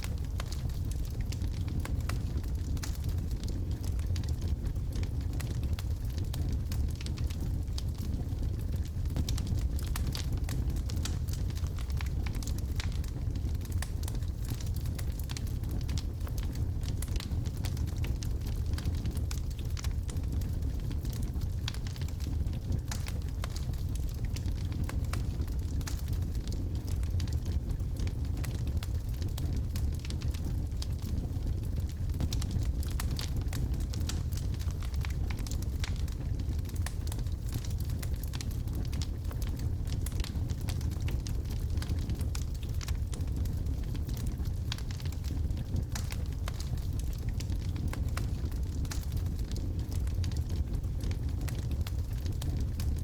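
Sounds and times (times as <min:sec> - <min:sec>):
fire rumbling: 0:00.0 - 0:53.0
logs crackling and popping: 0:00.0 - 0:53.0.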